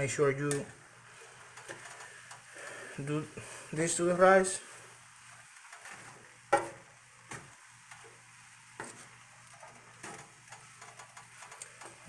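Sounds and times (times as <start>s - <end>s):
faint sizzle of frying rice: 0.0s - 12.0s
spatula stirring fried rice: 0.6s - 12.0s.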